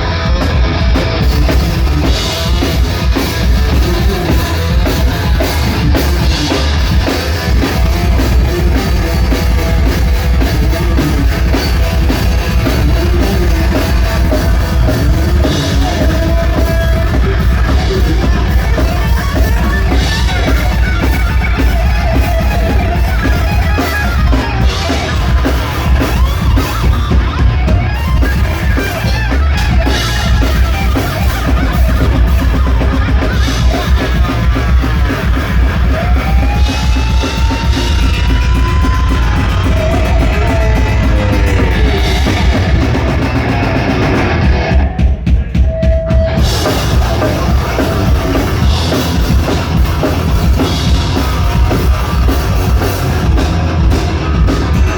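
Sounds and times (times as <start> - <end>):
heavy metal band playing live: 0.0 - 54.9.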